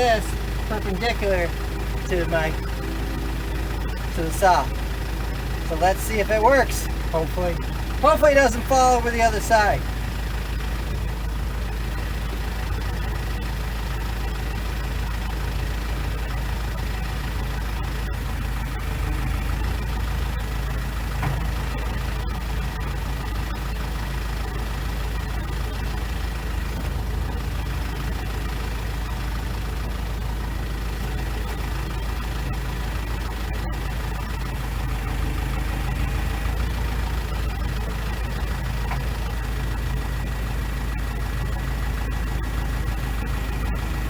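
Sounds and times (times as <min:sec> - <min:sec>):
loader lifting and rolling log: 0:00.0 - 0:44.0
tractor diesel engine running: 0:00.0 - 0:44.0.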